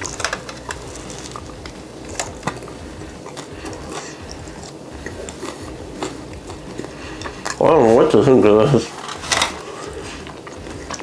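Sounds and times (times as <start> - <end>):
crunchy cone chewing: 0.0 - 11.0.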